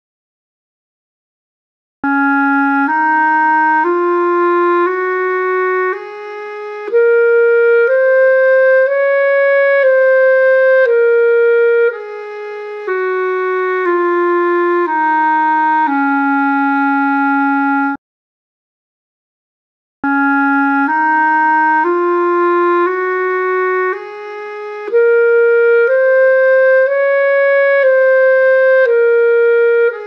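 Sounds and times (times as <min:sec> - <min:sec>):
clarinet playing a scale: 0:02.0 - 0:18.0, 0:20.0 - 0:30.0.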